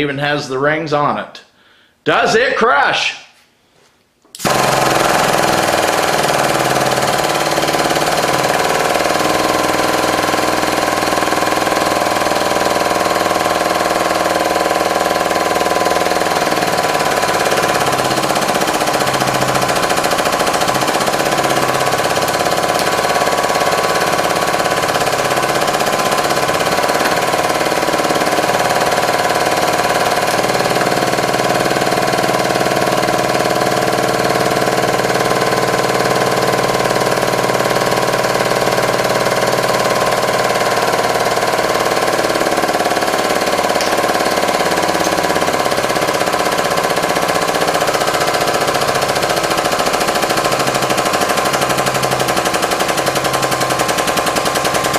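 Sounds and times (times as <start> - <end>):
hydraulic press pump running: 4.3 - 54.9.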